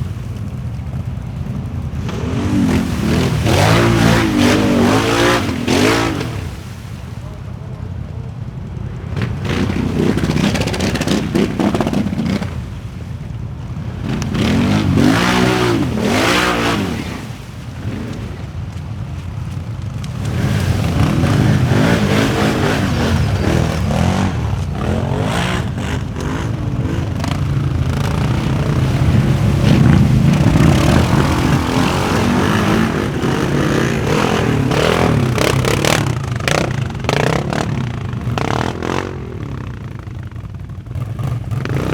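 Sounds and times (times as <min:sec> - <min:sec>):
atv engines revving: 0:00.0 - 0:41.9.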